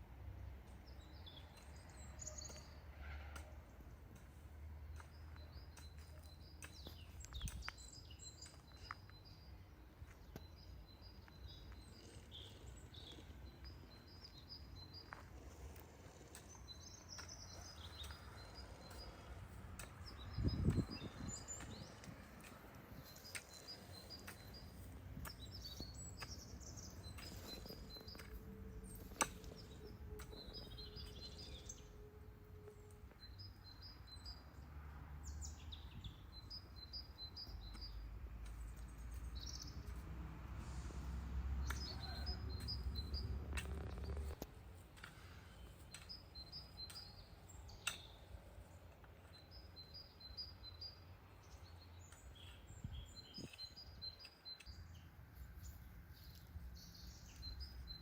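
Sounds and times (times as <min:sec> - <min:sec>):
small birds chirping: 0:00.5 - 0:32.1, 0:35.2 - 0:58.0.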